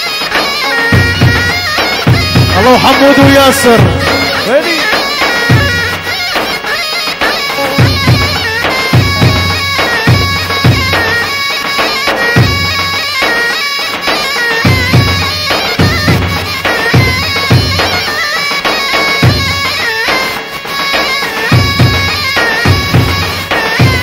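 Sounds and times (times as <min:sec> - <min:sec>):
double-headed drum beats: 0:00.0 - 0:24.0
reedy melody of held notes: 0:00.0 - 0:24.0.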